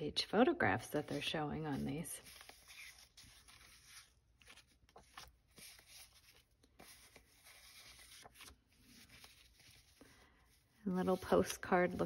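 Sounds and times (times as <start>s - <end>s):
paper sheets rustling: 0.3s - 12.0s.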